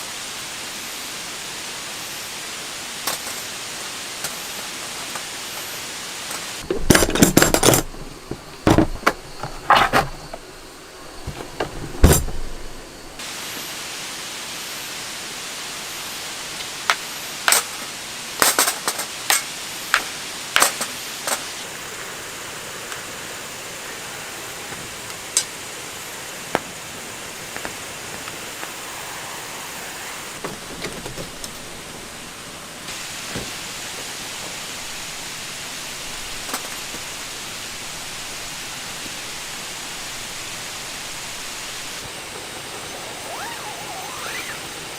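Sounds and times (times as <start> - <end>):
steady rain hiss: 0.0 - 44.9.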